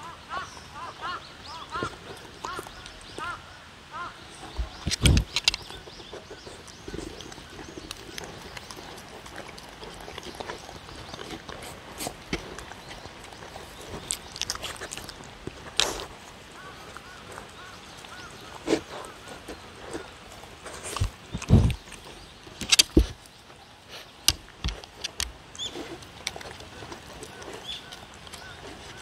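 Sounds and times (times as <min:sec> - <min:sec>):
dog chewing and crunching: 0:04.8 - 0:23.3, 0:23.9 - 0:29.0.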